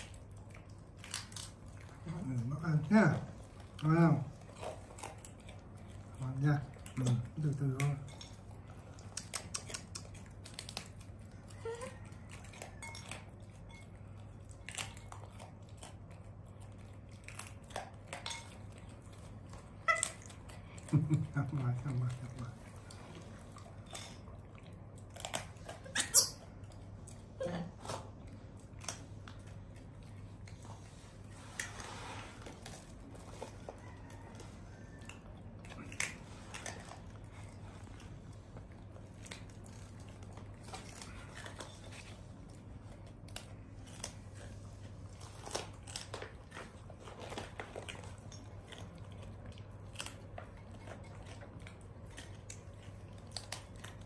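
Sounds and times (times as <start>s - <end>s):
monkey chewing dried banana: 0.0s - 54.0s.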